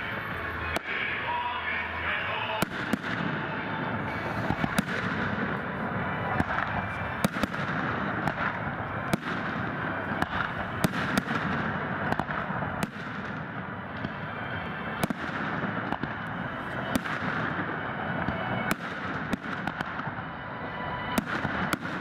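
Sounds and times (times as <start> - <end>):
continuous noisy background: 0.0 - 22.0.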